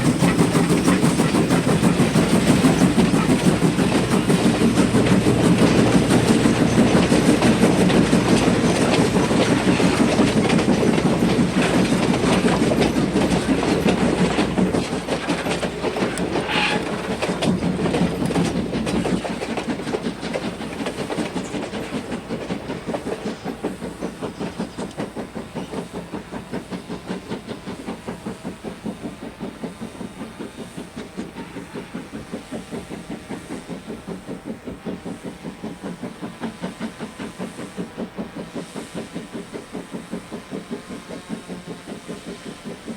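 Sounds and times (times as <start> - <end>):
train wheels clicking over rail joints: 0.0 - 42.9.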